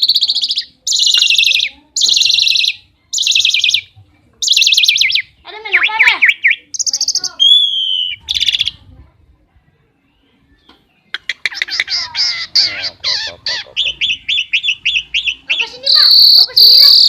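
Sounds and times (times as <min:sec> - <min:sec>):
starling calling: 0:00.0 - 0:08.8, 0:11.1 - 0:17.0.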